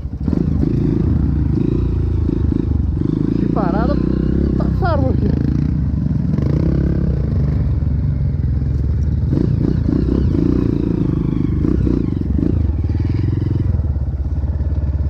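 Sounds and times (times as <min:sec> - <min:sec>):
dirt bike engine surging: 0:00.0 - 0:15.0.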